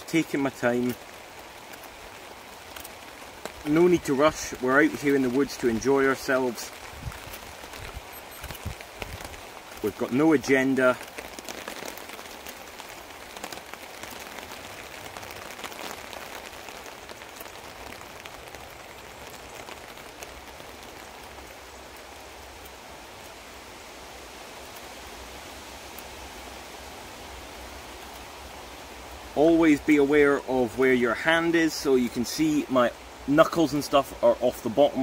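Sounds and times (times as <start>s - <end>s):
rain pattering on a tarp: 0.0s - 35.0s.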